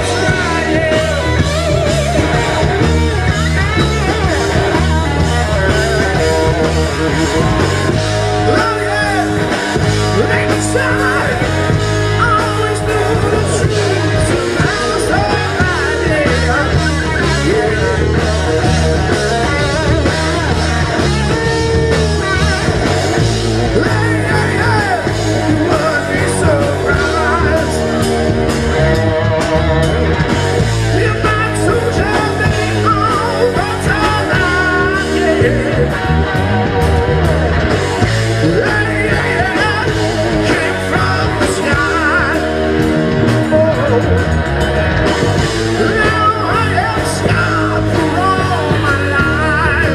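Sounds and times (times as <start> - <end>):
rock band playing live: 0.0 - 49.9.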